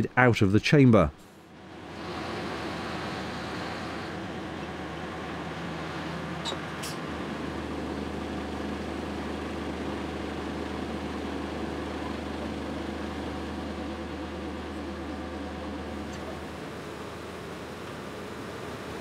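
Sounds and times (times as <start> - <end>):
crane engine humming: 1.2 - 19.0.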